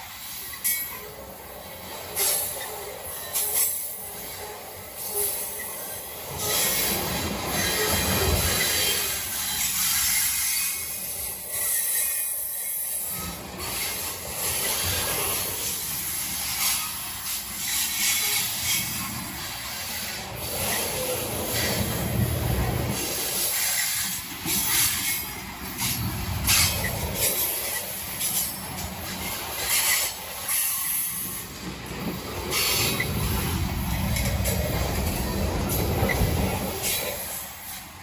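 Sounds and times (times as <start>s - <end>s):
steel wheels rumbling on rail: 0.0s - 38.0s.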